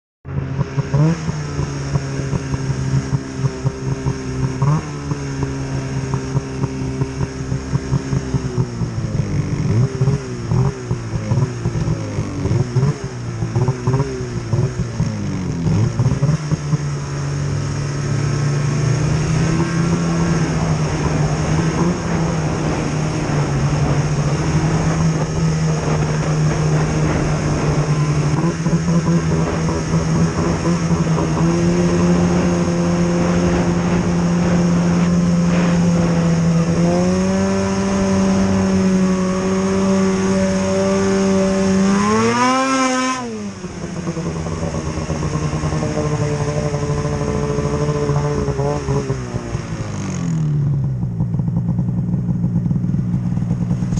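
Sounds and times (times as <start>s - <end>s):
snowmobile engine running: 0.3s - 53.9s.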